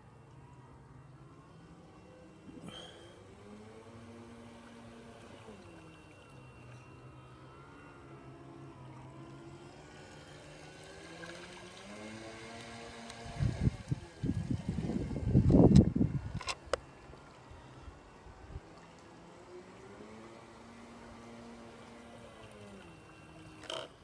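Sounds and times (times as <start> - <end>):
model boat motor humming: 0.0 - 24.0.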